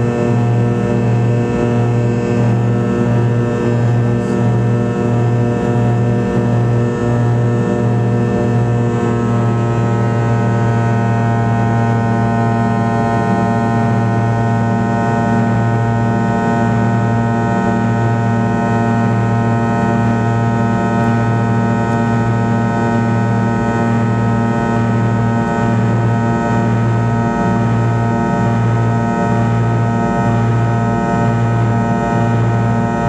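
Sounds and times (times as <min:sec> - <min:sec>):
aircraft cabin drone: 0:00.0 - 0:33.0.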